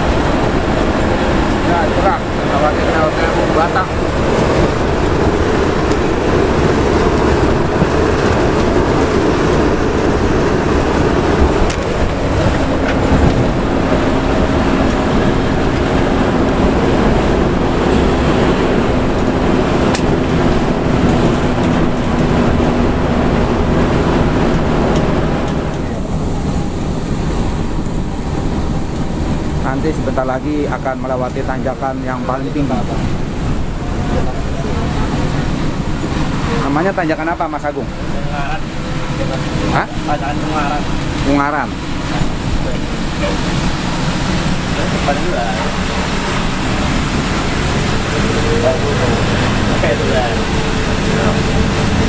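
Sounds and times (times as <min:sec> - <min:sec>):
bus engine hum: 0:00.0 - 0:52.0
tyre noise on wet road: 0:00.0 - 0:52.0.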